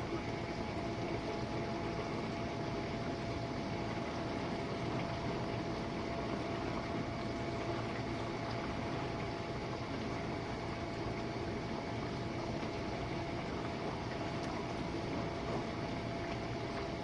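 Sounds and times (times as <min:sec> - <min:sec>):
pump hum: 0:00.0 - 0:17.0.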